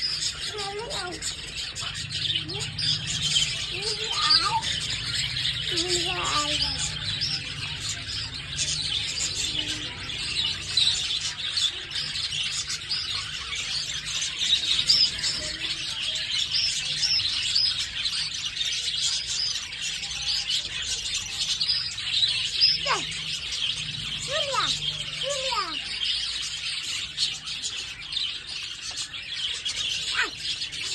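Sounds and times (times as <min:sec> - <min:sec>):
falling bird cry: 0:00.0 - 0:30.9
parrots chirping and chattering: 0:00.0 - 0:30.9.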